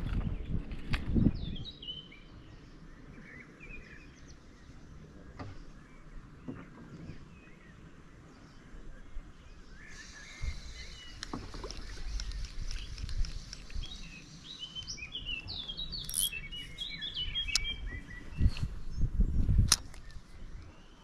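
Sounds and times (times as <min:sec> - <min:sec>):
songbirds singing and chirping: 0:00.0 - 0:21.0.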